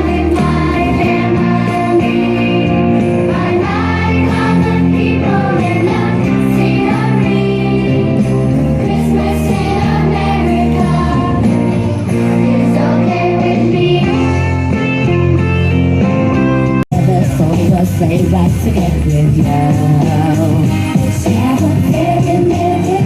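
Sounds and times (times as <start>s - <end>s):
holiday song with singing: 0.0s - 14.5s, 17.0s - 23.0s.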